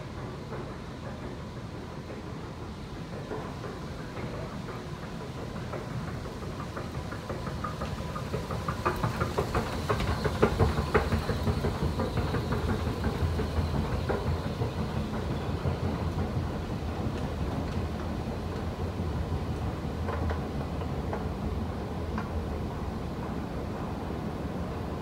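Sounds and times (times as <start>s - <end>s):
escalator clicks and clacks: 0.1s - 22.6s.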